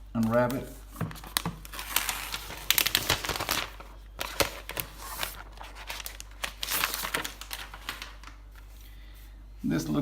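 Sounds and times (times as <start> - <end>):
plastic wrapping crinkling and tearing: 0.2 - 8.7.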